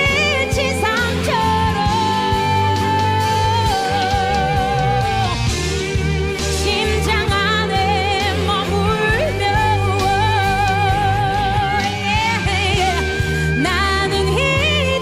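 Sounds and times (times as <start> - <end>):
instrumental accompaniment with bass: 0.0 - 15.0
woman singing pop ballad: 0.0 - 15.0.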